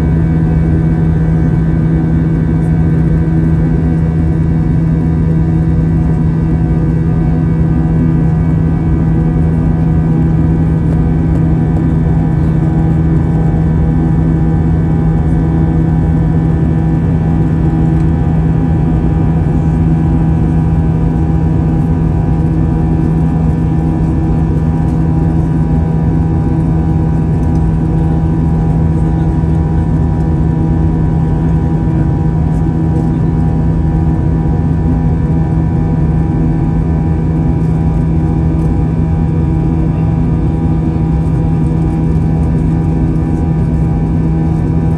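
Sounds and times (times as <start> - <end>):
jet engine low hum: 0.0 - 44.9.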